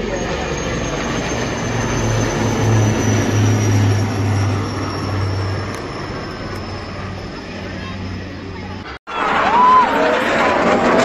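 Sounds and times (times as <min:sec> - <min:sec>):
helicopters flying overhead: 0:00.0 - 0:11.0.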